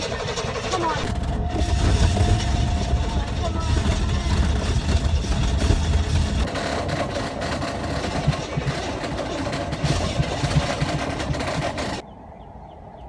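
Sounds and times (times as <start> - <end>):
car engine cranking slowly: 0.0 - 12.0.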